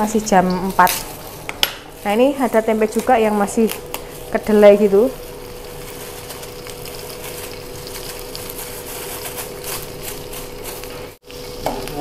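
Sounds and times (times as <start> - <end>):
food sizzling in hot oil: 0.0 - 12.0
oil crackling: 0.0 - 12.0.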